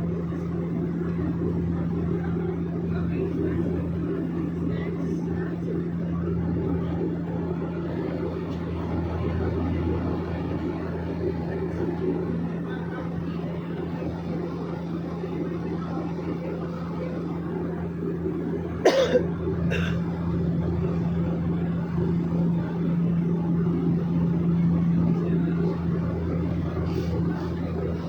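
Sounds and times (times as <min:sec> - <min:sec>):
small airplane engine drone: 0:00.0 - 0:28.0.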